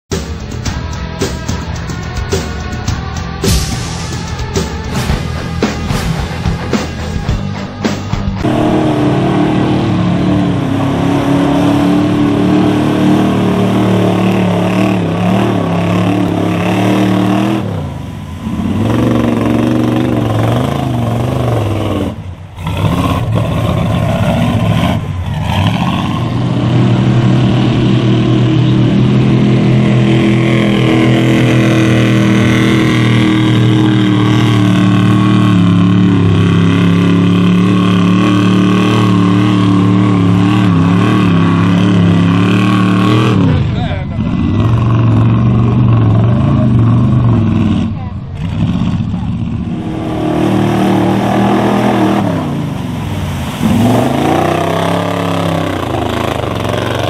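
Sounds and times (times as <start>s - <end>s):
truck engine revving hard: 0.1s - 57.0s.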